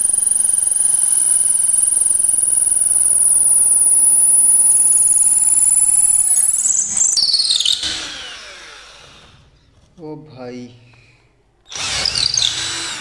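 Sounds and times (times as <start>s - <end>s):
drill boring into wood: 0.0s - 9.6s, 11.7s - 13.0s.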